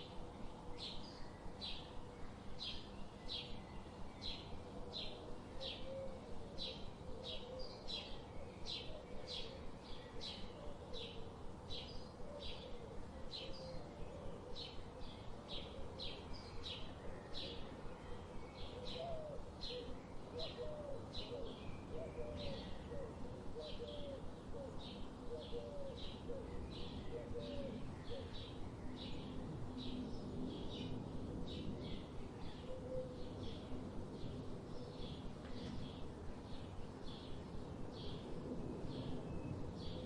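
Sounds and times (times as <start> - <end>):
outdoor background hiss: 0.0 - 40.0.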